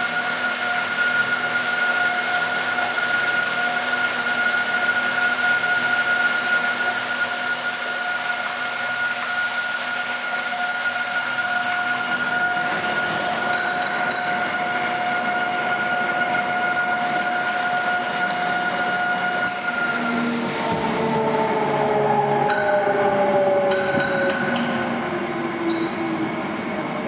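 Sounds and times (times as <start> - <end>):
high machine whine: 0.0 - 27.0.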